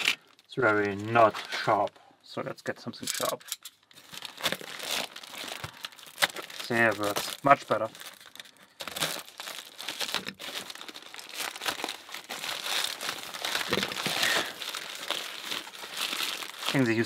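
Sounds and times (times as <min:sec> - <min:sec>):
plastic bag crinkling and rustling: 0:00.0 - 0:02.0, 0:03.2 - 0:17.0.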